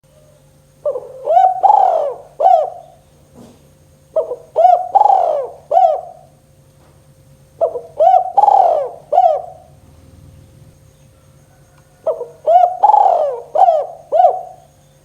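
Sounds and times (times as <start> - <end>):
faint steady hum: 0.0 - 15.0
dove cooing: 0.1 - 6.4, 7.4 - 14.8.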